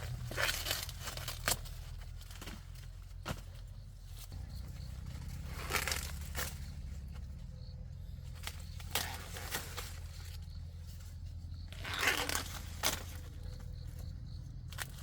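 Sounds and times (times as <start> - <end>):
dry plants crackling and rustling: 0.0 - 15.0
steady low hum: 0.0 - 15.0.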